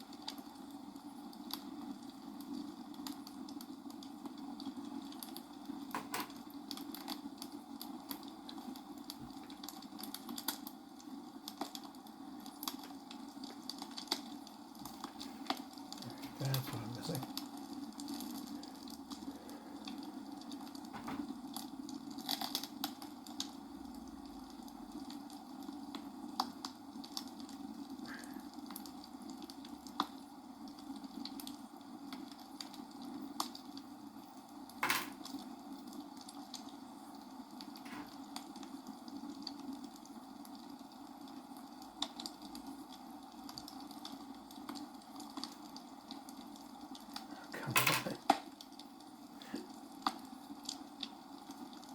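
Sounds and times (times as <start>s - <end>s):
low background hum: 0.0s - 51.9s.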